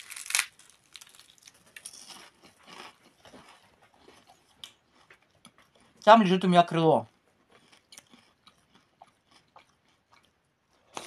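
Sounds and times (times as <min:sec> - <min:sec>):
biting into crisp pastry: 0:00.0 - 0:06.0, 0:07.4 - 0:11.0
soft crunchy chewing: 0:00.0 - 0:06.4, 0:07.0 - 0:11.0.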